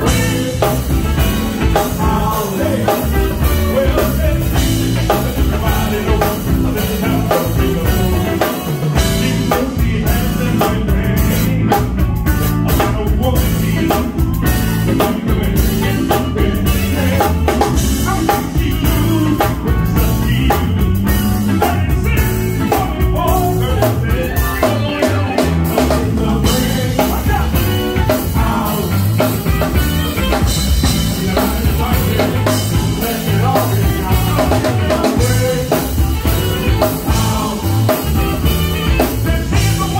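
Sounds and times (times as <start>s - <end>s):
live band playing upbeat song: 0.0s - 39.9s.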